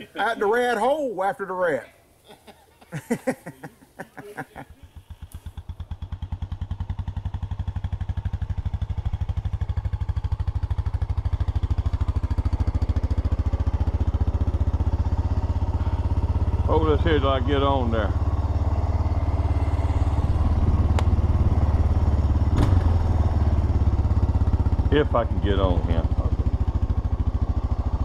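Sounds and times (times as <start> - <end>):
quad bike engine idling: 4.4 - 28.0.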